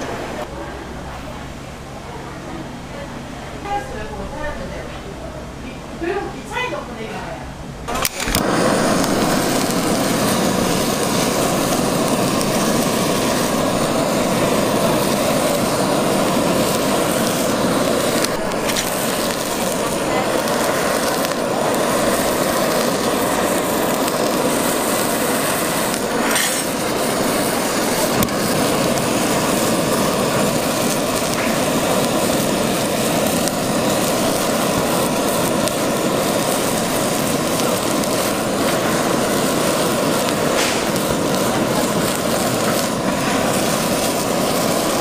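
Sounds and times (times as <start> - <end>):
kitchen torch hissing: 0.0 - 0.5, 6.0 - 45.0.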